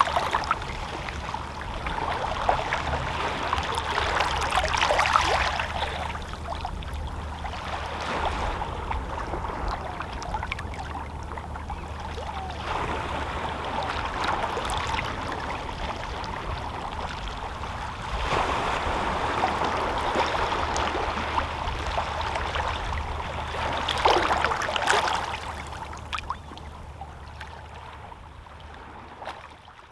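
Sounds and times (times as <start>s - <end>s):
water lapping against rocks: 0.0s - 11.5s, 12.3s - 26.4s.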